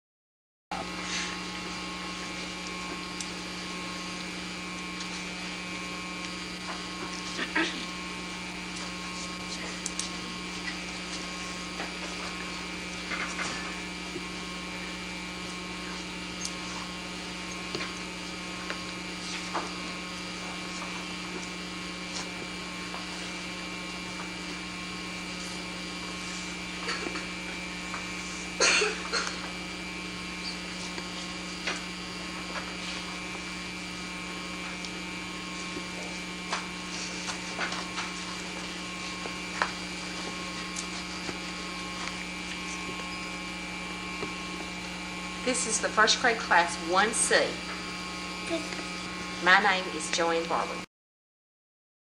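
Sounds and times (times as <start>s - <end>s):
electrical hum: 0.7s - 50.9s.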